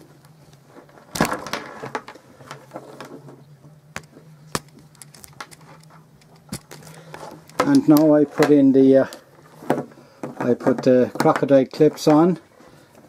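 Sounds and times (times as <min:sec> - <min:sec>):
steady low hum: 0:00.0 - 0:10.7
cables moving on wooden table: 0:00.8 - 0:13.0.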